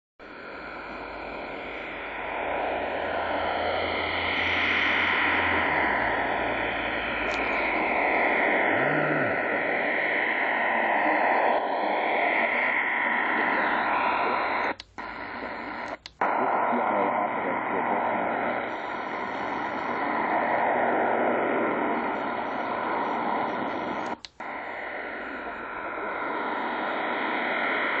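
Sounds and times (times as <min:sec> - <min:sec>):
low hum: 0:00.2 - 0:28.0
shortwave radio rushing noise: 0:00.2 - 0:28.0.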